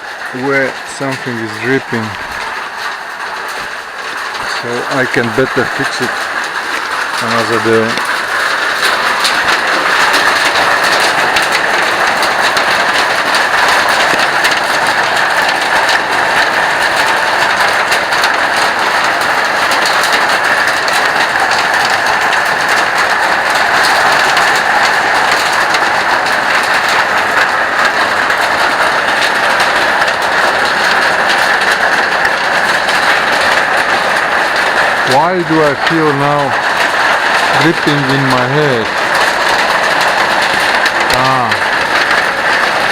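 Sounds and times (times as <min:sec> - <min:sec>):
heavy rain: 0:00.0 - 0:42.9
rush of falling water: 0:00.0 - 0:42.9.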